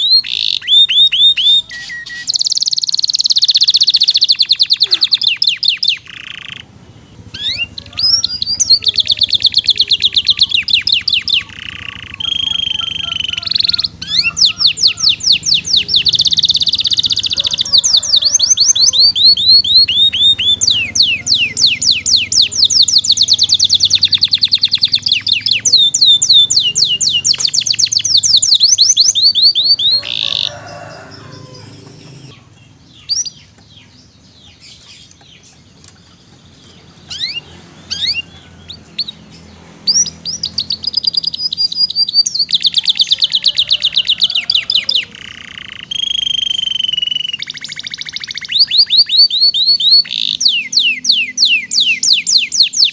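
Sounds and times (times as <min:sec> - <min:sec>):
canary short chirps: 0:00.0 - 0:06.7, 0:07.3 - 0:33.9, 0:34.5 - 0:52.9
canary trilling: 0:00.0 - 0:52.9.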